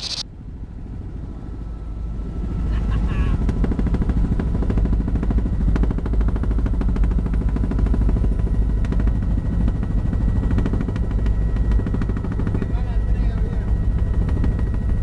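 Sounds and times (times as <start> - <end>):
helicopter rotor blades chopping: 0.0 - 15.0
loud helicopter engine noise: 0.0 - 15.0.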